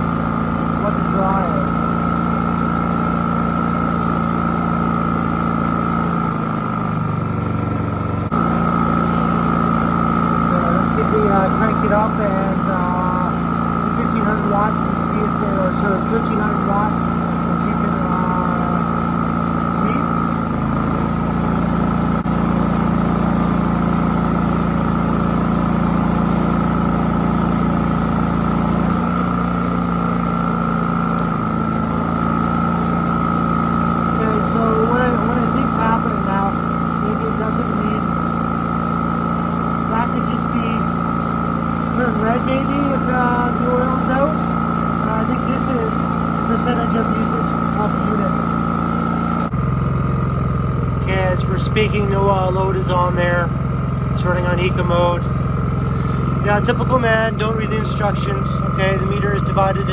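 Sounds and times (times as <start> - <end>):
generator engine running: 0.0 - 59.9
high whine: 0.0 - 59.9.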